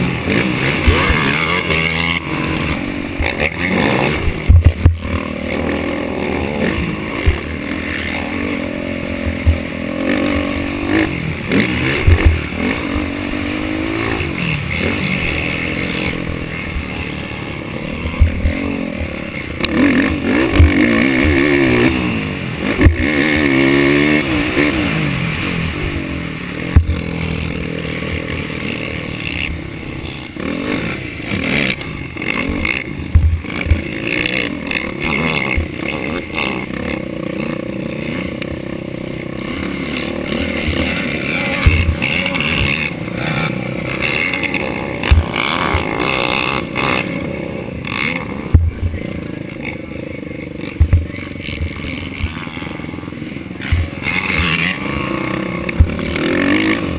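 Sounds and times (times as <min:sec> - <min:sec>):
sharp thumps and clatter: 0:00.0 - 0:22.0, 0:22.6 - 0:26.0, 0:26.6 - 0:47.2, 0:47.8 - 0:49.8, 0:50.7 - 0:52.9, 0:53.6 - 0:56.9
quad engine revving: 0:00.0 - 0:56.9.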